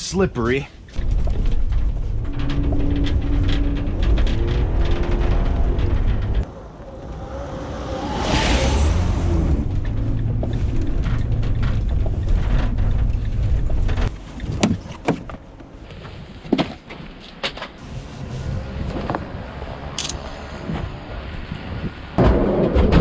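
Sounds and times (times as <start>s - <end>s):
van engine rumbling: 0.0s - 22.2s.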